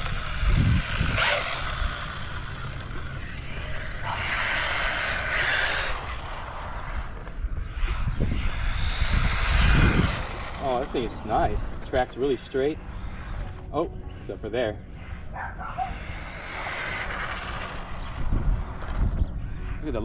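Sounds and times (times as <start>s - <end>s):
toy truck tyres scrubbing: 0.0s - 13.4s, 15.7s - 19.1s
electric motor whirring: 0.0s - 20.0s.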